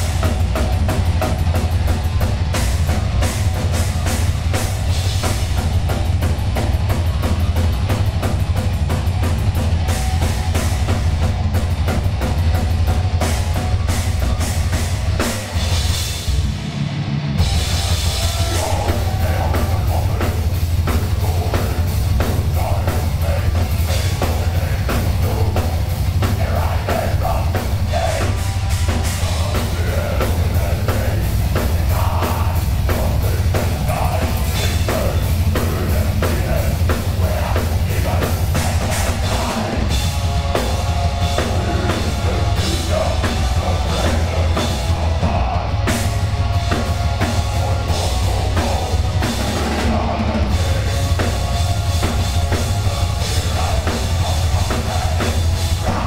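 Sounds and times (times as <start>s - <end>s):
bass guitar: 0.0s - 56.0s
distorted electric guitars: 0.0s - 56.0s
pounding drum kit: 0.0s - 56.0s.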